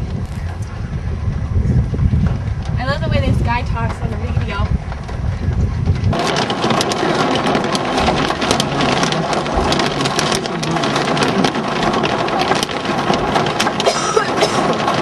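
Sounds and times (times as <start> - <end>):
heavy rain on hard surface: 2.1 - 15.0.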